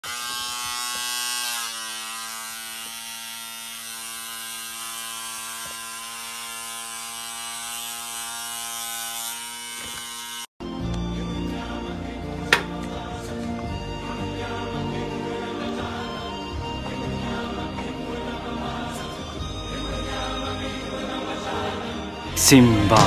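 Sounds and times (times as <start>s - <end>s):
electric hair clipper buzzing: 0.0s - 11.0s, 12.5s - 23.0s.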